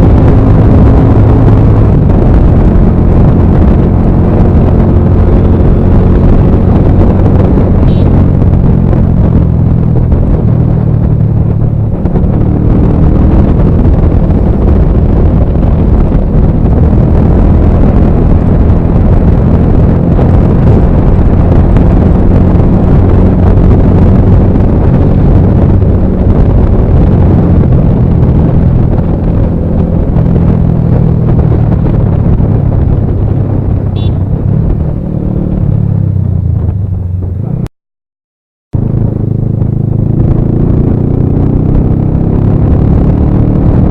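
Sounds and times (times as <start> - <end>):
motorcycle engine cruising: 0.0 - 37.7, 38.8 - 43.9
wind rush on microphone: 0.0 - 37.7, 38.7 - 43.9.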